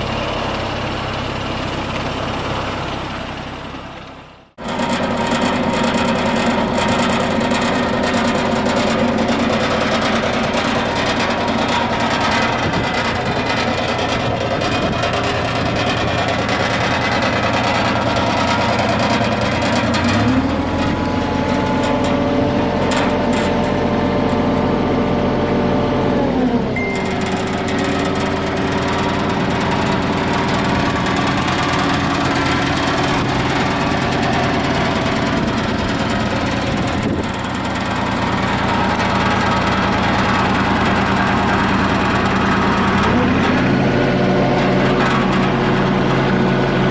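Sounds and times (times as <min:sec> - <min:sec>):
mini excavator engine running: 0:00.0 - 0:46.9.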